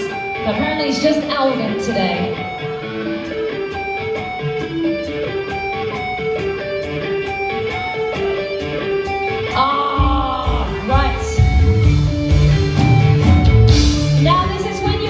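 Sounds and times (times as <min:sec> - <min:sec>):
live band music: 0:00.0 - 0:15.0
picked guitar riff: 0:00.0 - 0:15.0.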